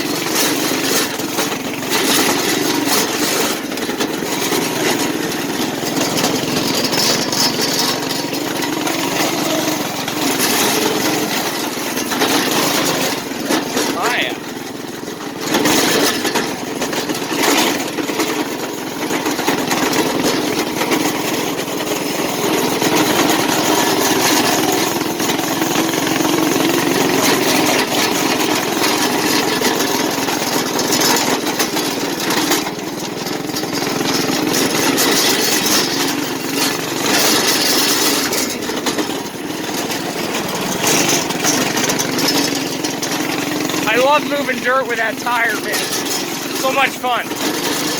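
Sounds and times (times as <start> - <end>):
go-kart engine running: 0.0 - 47.9.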